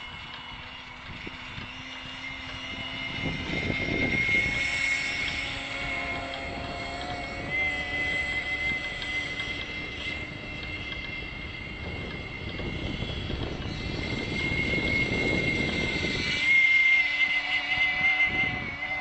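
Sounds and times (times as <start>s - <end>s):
model boat engine whining: 0.0s - 19.0s
wind buffeting microphone: 0.0s - 19.0s.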